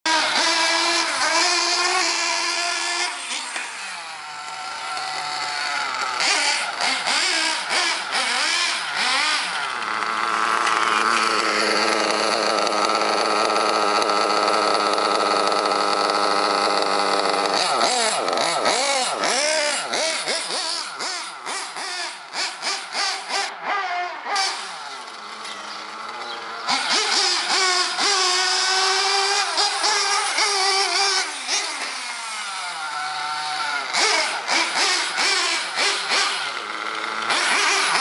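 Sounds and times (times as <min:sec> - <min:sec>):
model car engine revving: 0:00.1 - 0:38.0.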